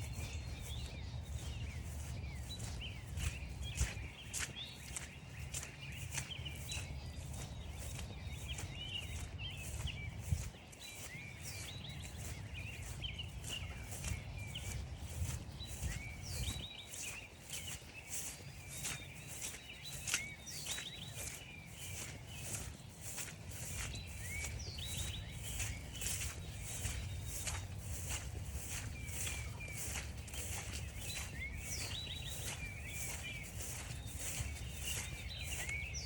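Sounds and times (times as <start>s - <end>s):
footsteps crunching on frozen grass: 0.0s - 36.0s
songbirds chirping: 0.0s - 36.0s.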